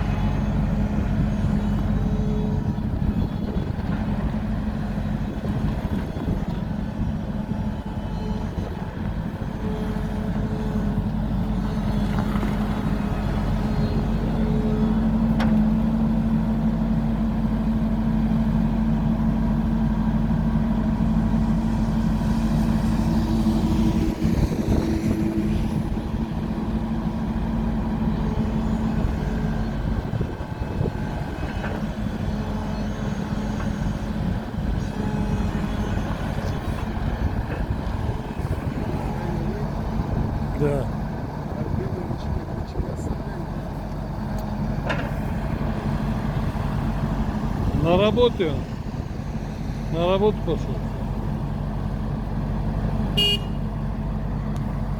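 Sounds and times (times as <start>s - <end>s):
skid steer loader engine running: 0.0s - 54.9s.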